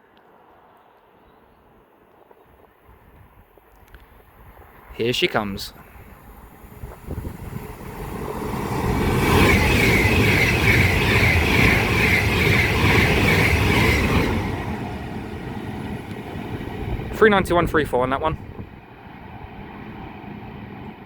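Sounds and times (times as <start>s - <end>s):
electric train passing at speed: 3.4s - 21.0s.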